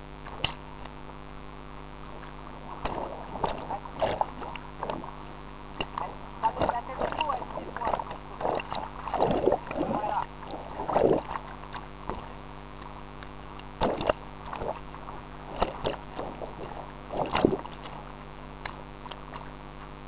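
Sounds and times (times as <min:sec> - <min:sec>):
jacuzzi water bubbling: 0:00.0 - 0:20.0
steady low hum: 0:00.0 - 0:20.0
water washing over microphone: 0:00.0 - 0:20.0.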